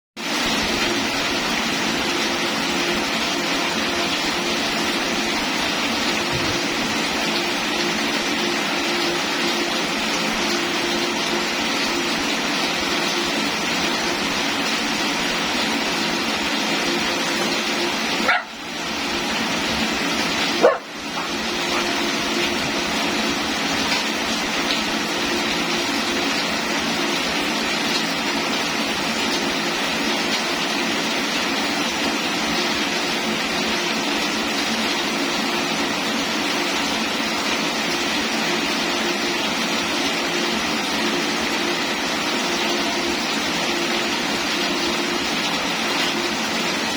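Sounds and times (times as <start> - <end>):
rain falling: 0.2 - 46.9.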